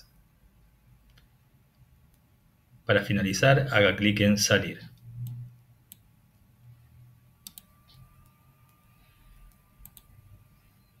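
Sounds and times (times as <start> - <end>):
faint low room hum: 0.0 - 11.0.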